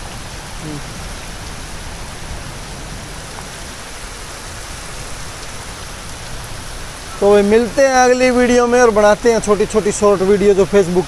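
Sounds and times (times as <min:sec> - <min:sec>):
heavy rain on standing water: 0:00.0 - 0:11.0.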